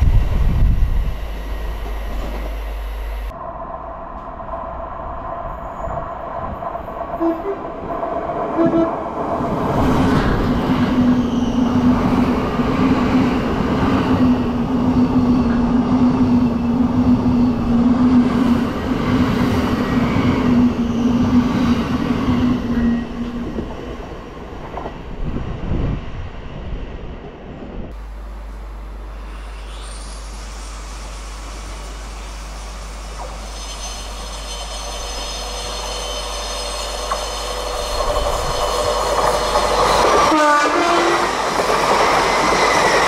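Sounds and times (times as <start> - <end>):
diesel locomotive engine drone: 0.0 - 43.0
wheel and rail noise: 0.0 - 43.0.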